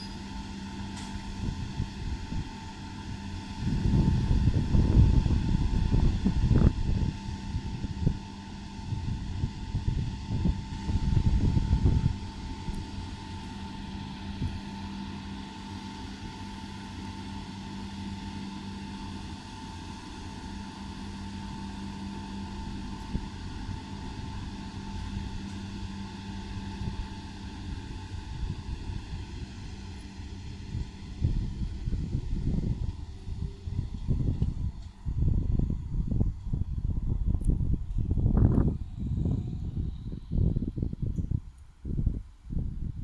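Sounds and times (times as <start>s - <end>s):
electric train hum: 0.0s - 43.0s
wind buffeting microphone: 0.7s - 14.8s, 22.3s - 43.0s.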